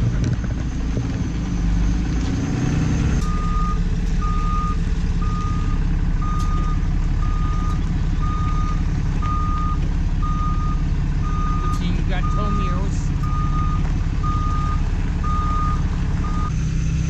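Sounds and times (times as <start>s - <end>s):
truck engine rumbling: 0.0s - 17.0s
truck reversing alarm beeping: 1.3s - 17.0s.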